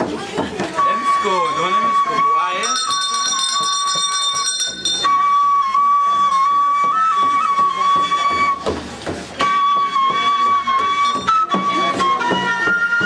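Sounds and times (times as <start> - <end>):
wooden flute melody: 0.0 - 13.0.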